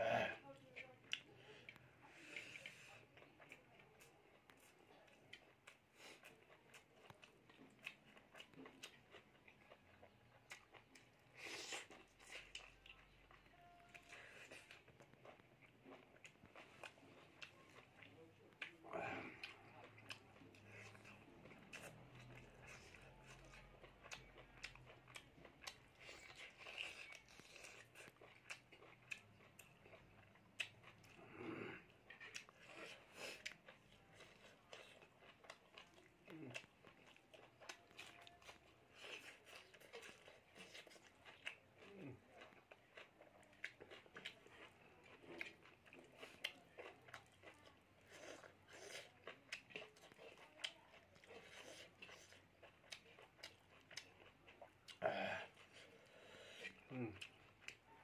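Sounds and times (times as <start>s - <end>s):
chewing: 0.1s - 58.0s.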